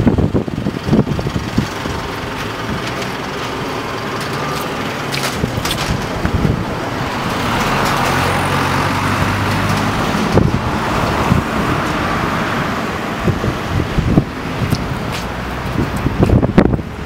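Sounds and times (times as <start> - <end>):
cars passing close by: 0.0 - 17.0.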